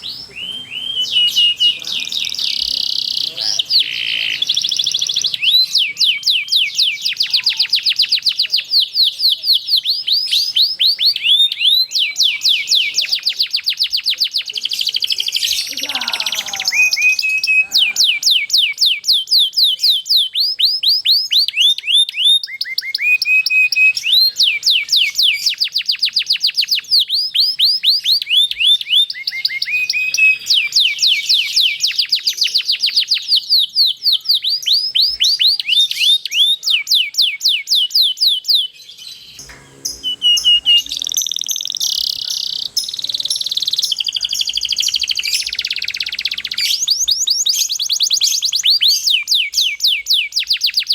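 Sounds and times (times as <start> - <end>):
canary singing rolling trills: 0.0 - 50.9.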